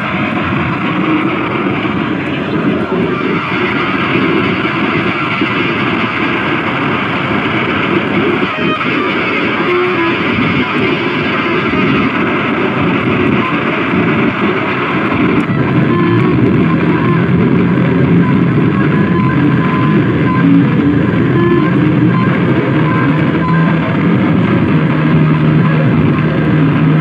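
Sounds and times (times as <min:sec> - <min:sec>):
harsh distorted noise music: 0:00.0 - 0:27.0
short steady tones: 0:02.8 - 0:27.0.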